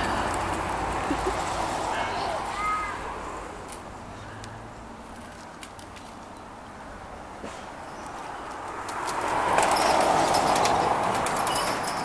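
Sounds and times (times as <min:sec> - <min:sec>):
car tyres passing: 0:00.0 - 0:12.0.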